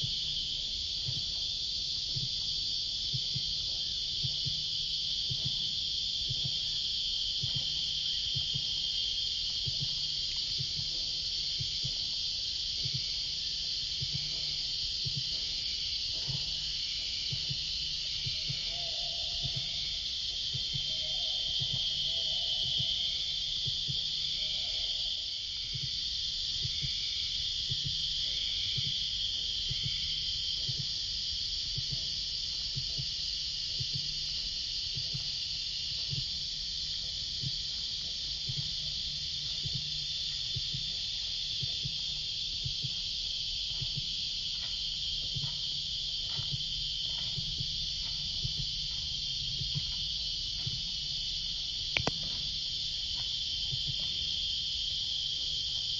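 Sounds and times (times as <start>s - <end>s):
cicada chorus buzzing: 0.0s - 55.9s
pulsing insect call: 0.0s - 55.9s
soft low double thumps: 0.0s - 55.9s.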